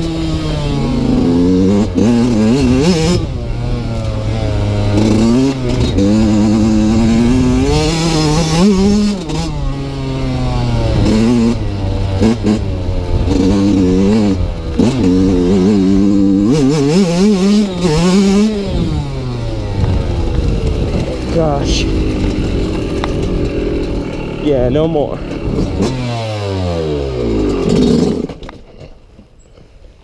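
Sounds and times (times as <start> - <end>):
dirt bike engine revving: 0.0 - 28.5.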